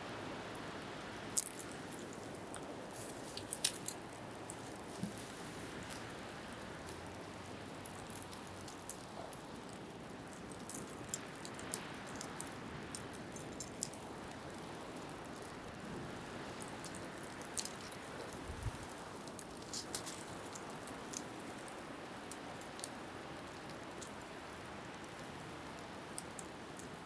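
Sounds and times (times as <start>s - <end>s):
wind: 0.0s - 27.0s
bonfire crackling and popping: 0.4s - 27.0s.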